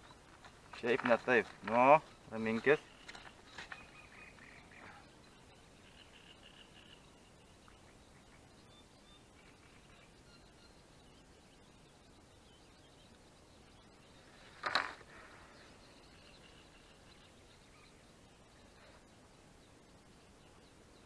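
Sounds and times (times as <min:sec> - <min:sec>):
distant birds chirping: 0:00.0 - 0:21.0.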